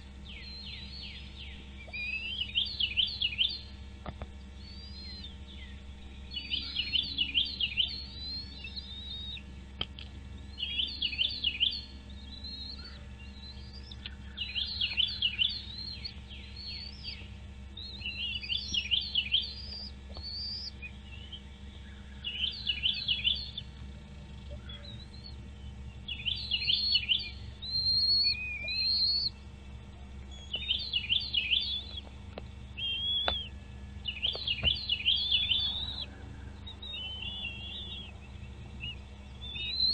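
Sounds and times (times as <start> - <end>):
steady low hum: 0.0 - 39.9
bird whistling song: 0.2 - 3.8, 4.6 - 9.5, 10.4 - 29.4, 30.3 - 32.1, 32.7 - 39.9.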